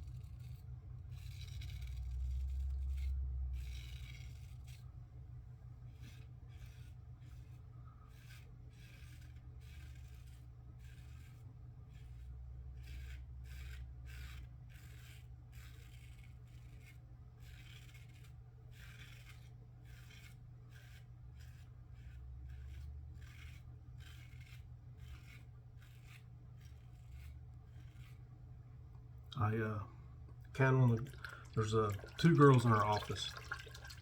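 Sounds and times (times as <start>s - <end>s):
razor scraping stubble: 0.0s - 5.0s, 5.8s - 29.8s, 30.4s - 34.0s.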